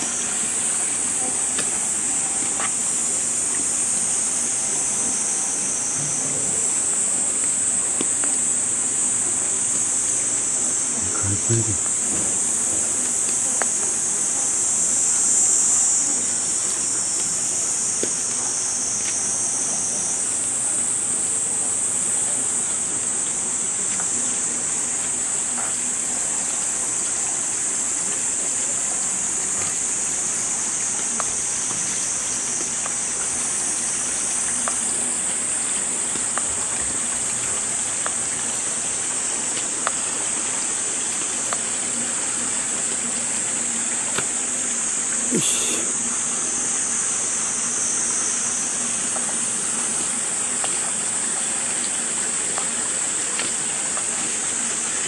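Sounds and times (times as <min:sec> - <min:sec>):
flowing water rushing: 0:00.0 - 0:55.0
insects buzzing: 0:00.0 - 0:55.0.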